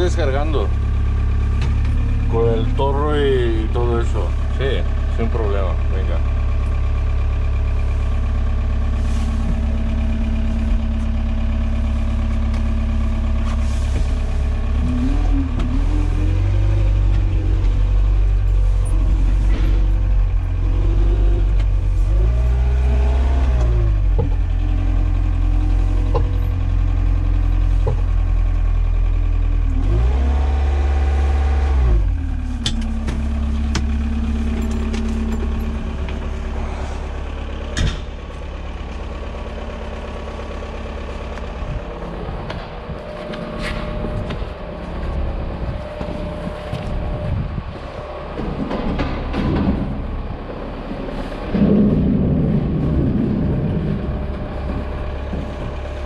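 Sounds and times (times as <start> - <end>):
forklift engine revving: 0.0 - 56.0.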